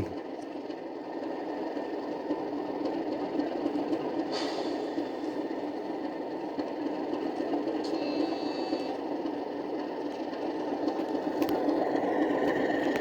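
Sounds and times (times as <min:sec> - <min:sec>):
diesel engine through small speaker: 0:00.0 - 0:13.0.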